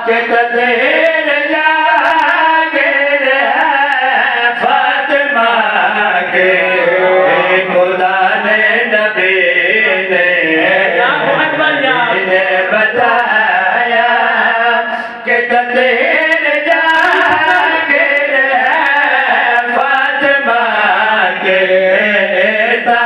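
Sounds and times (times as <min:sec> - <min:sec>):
man chanting through microphone: 0:00.0 - 0:23.0.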